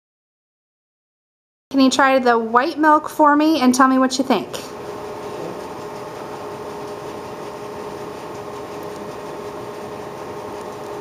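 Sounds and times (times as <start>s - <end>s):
room hum: 1.7s - 11.0s.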